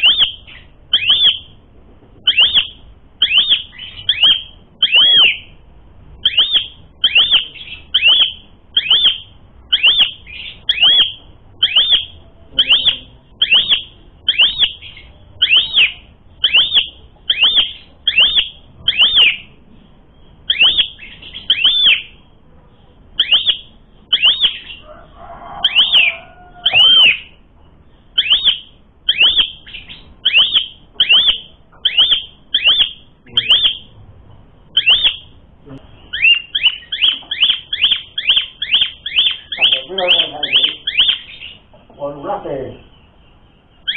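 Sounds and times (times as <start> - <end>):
starling calling: 0.0 - 43.9.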